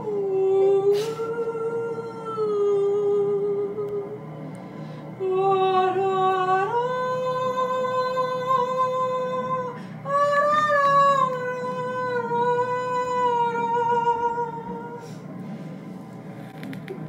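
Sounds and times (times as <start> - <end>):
woman singing long notes: 0.0 - 4.2, 5.2 - 15.1.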